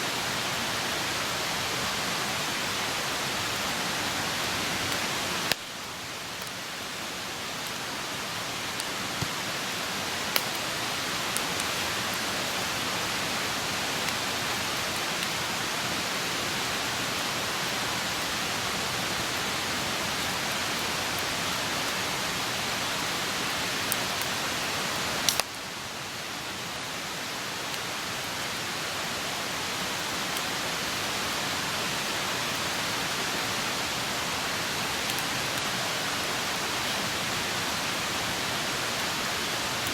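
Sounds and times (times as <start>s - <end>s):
campfire hissing: 0.0s - 39.9s.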